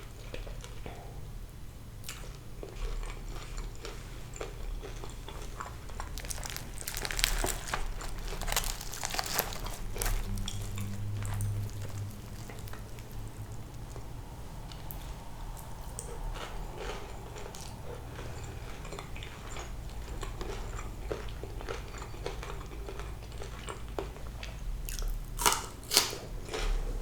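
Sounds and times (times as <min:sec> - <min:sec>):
crispy fish being chewed: 0:02.0 - 0:27.0.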